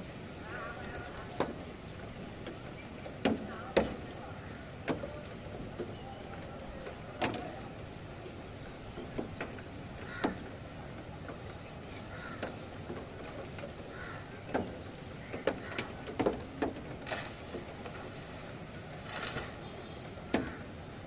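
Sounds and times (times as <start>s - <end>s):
wind and rain rushing: 0.0s - 21.0s.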